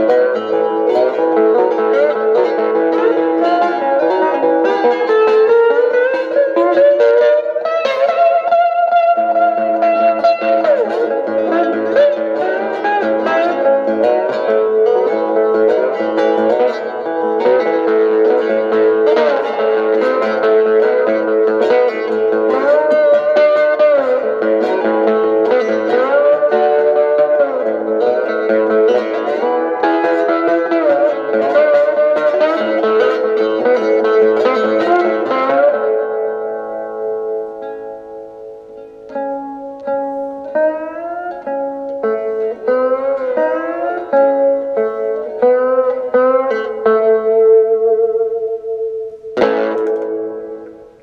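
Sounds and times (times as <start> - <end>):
solo guitar playing: 0.0 - 51.0.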